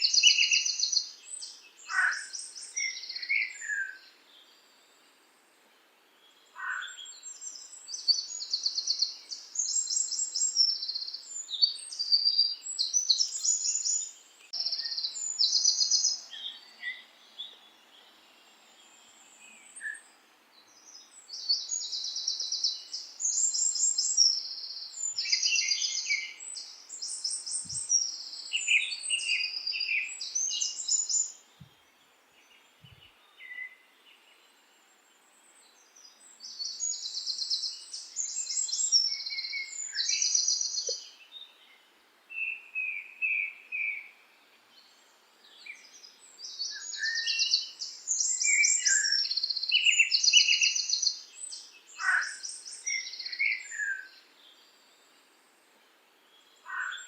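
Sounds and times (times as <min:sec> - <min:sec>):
songbirds trilling and chirping: 0:00.0 - 0:57.0.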